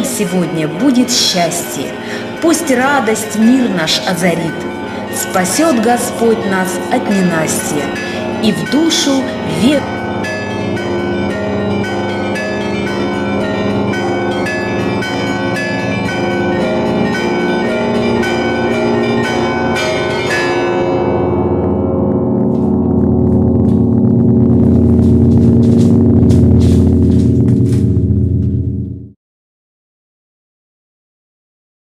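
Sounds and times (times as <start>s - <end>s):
deep bells ringing: 0.0s - 29.1s.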